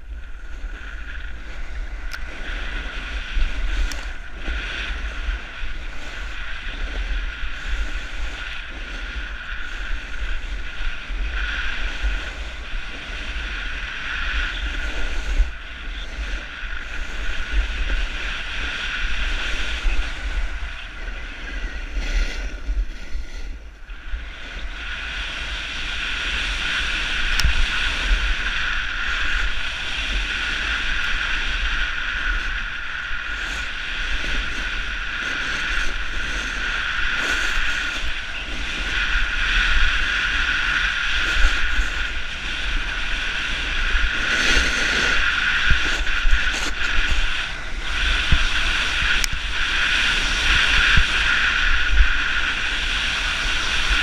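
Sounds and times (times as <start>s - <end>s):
snowboard scraping over snow: 0.0s - 54.0s
wind buffeting microphone: 0.0s - 54.0s.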